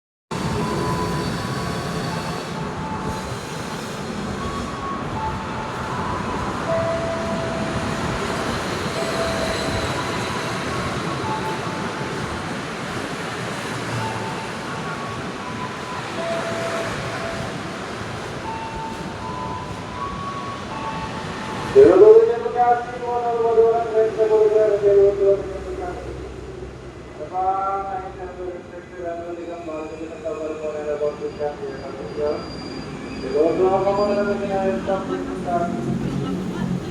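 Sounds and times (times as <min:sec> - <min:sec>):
train rolling on rails: 0:00.3 - 0:36.9.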